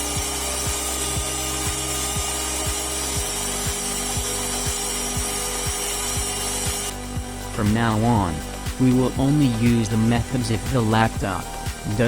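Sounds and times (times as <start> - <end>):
kick drum beat: 0.0 - 9.4, 10.2 - 11.9.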